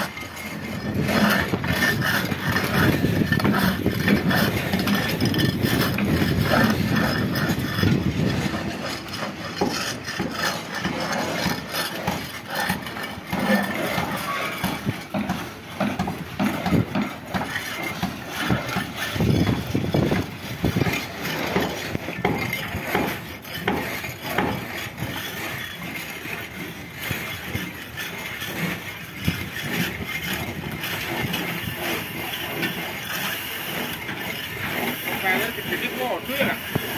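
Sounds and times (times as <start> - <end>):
scrapers scraping a boat hull: 0.0 - 36.9
steady background hum: 0.0 - 36.9.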